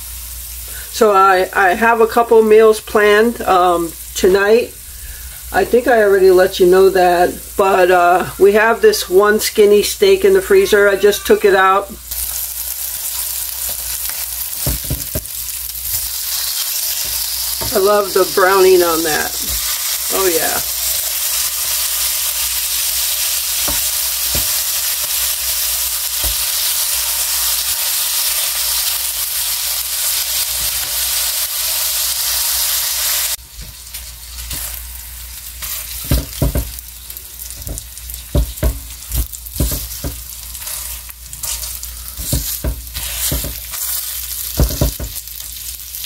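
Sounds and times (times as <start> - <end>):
sausages sizzling in skillet: 0.0 - 46.0.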